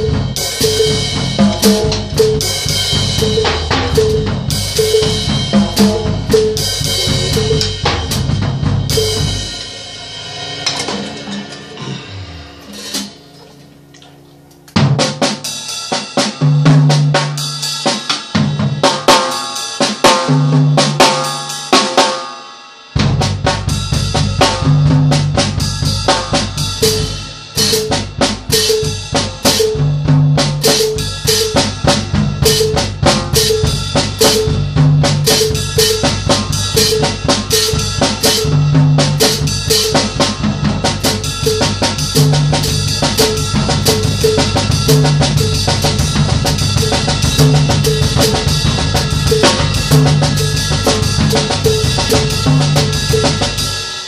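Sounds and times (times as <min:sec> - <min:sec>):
drum kit played with sticks: 0:00.0 - 0:54.0.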